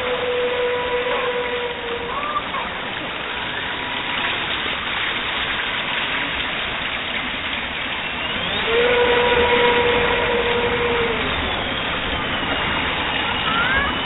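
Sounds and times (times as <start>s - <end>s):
model boat motors: 0.0s - 14.0s
water hiss: 0.0s - 14.0s.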